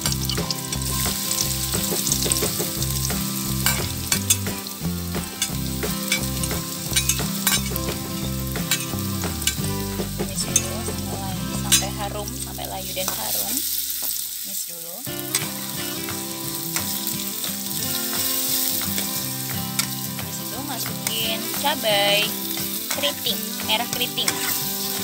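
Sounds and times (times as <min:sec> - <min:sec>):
shallots sizzling in hot oil: 0:00.0 - 0:25.0.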